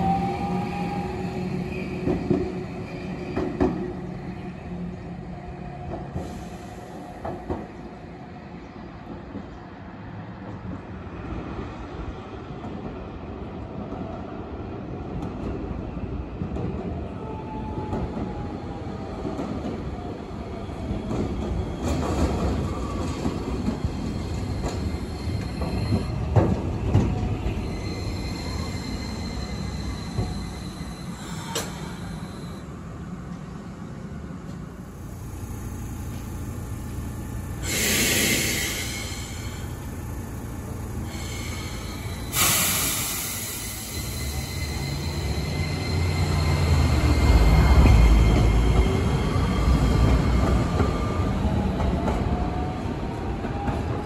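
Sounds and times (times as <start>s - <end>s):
tram motor and wheel noise: 0.0s - 54.0s.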